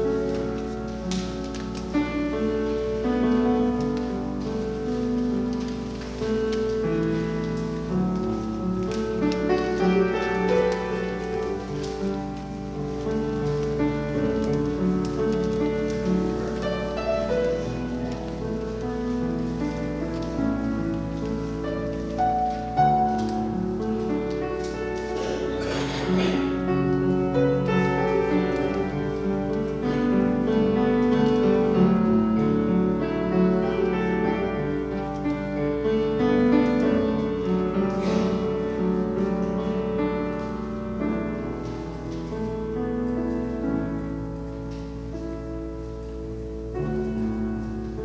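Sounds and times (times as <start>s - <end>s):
piano playing slow chords: 0.0s - 48.0s.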